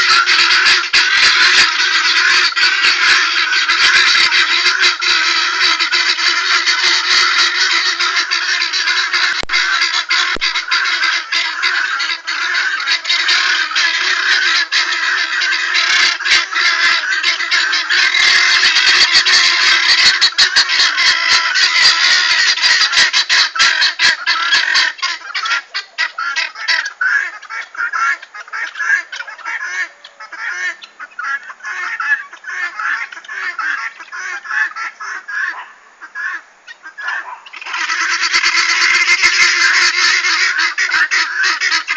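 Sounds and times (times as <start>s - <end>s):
guineafowl flock calling: 0.0s - 41.9s.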